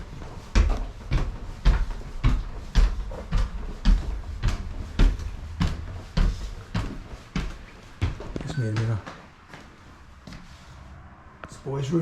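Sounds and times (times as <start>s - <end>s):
heavy footsteps on stairs: 0.0s - 10.7s.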